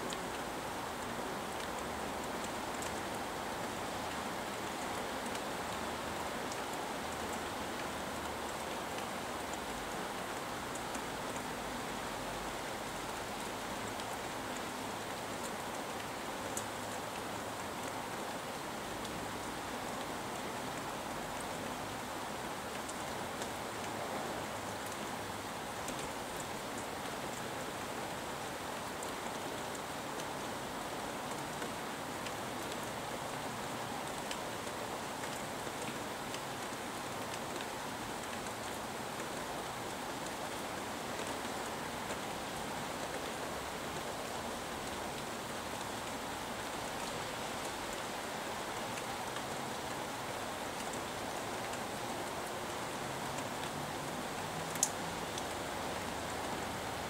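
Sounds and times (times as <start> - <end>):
raindrops ticking on surfaces: 0.0 - 57.0
steady rain hiss: 0.0 - 57.0.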